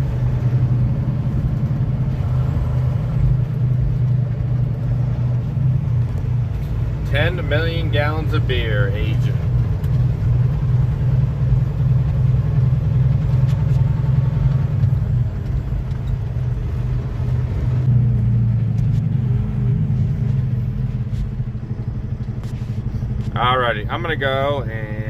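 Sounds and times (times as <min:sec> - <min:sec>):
truck diesel engine droning: 0:00.0 - 0:25.0.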